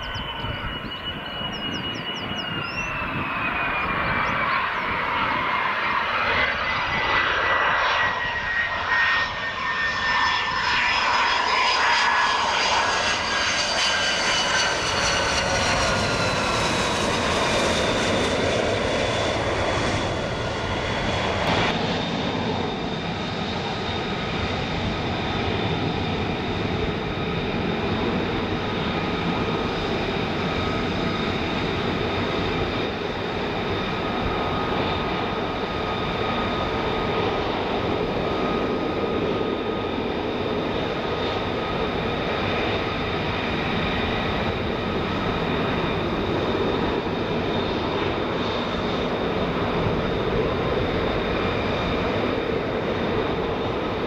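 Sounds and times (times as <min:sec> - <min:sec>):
jet engine rumbling and whining: 0:00.0 - 0:54.0
jet whine on approach: 0:00.0 - 0:54.0.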